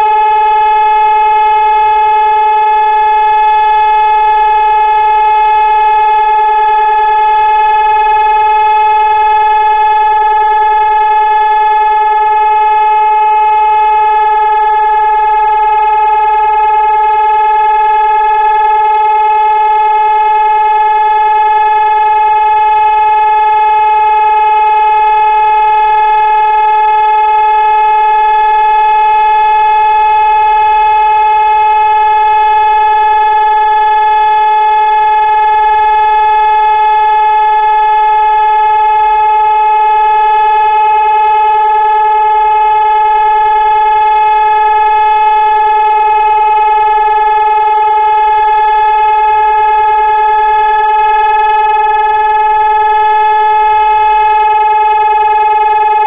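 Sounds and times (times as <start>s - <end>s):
loud steady siren tone: 0.0s - 56.0s.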